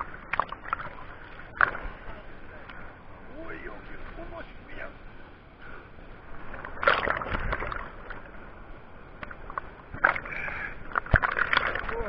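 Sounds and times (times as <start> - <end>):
whitewater rushing and splashing: 0.0 - 12.0.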